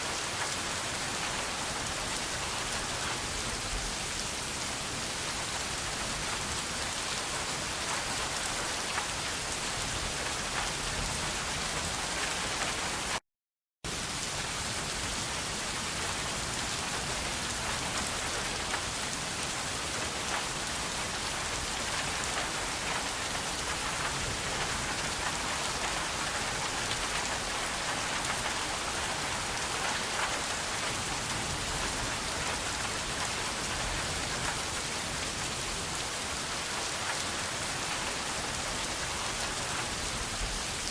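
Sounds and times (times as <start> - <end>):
steady rain hiss: 0.0 - 13.2, 13.9 - 40.9.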